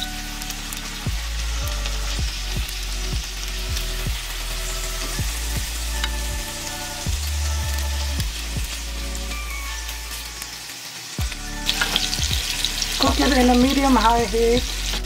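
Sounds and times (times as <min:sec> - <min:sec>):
music with low beat: 0:00.0 - 0:10.5, 0:11.2 - 0:15.0
chicken sizzling in oil: 0:00.0 - 0:15.0.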